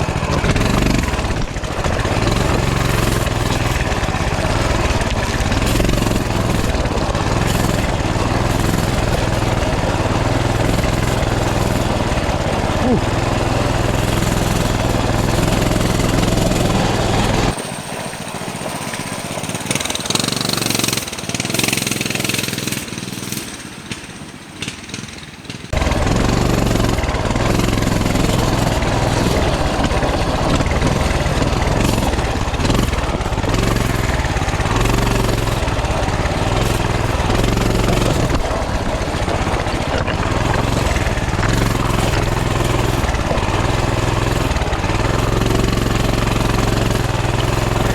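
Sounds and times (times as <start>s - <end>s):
small motorbike engine droning: 0.0s - 47.9s.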